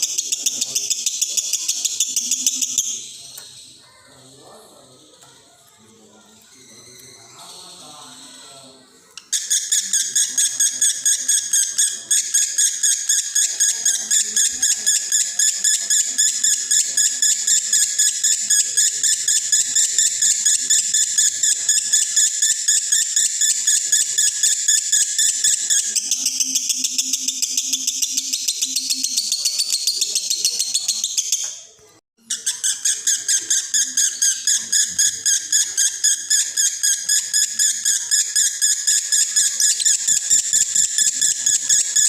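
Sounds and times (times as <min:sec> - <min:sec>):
lovebird singing rapid high chirps: 0:00.0 - 0:03.6, 0:09.2 - 0:31.6, 0:32.2 - 0:42.0.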